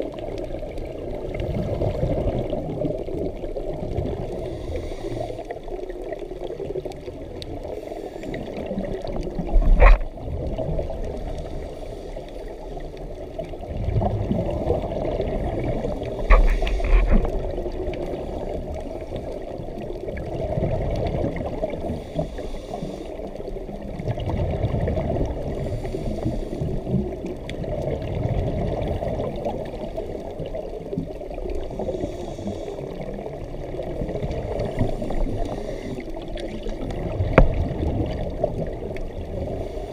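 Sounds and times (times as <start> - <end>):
underwater exhaled bubbles rumbling: 0.0 - 39.9.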